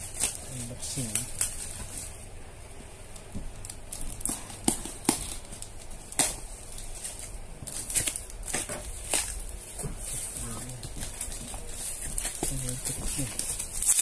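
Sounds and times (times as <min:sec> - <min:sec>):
cardboard and plastic crackling: 0:00.0 - 0:02.2, 0:03.0 - 0:14.0.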